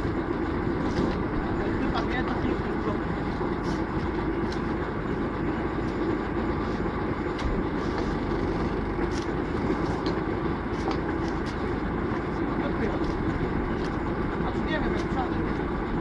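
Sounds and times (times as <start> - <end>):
drilling rig engine running: 0.0 - 16.0.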